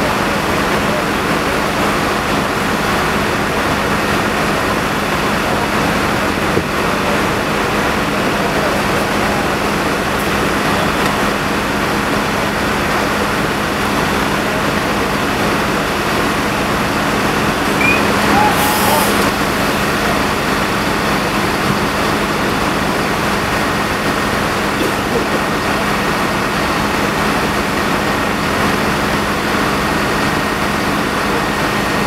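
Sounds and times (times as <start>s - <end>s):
fire engine pumps droning: 0.0s - 32.0s.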